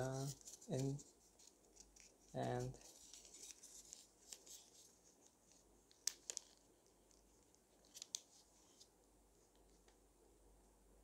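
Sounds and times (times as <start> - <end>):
paper crackles: 0.0 - 8.9
paper crinkling: 0.0 - 8.9.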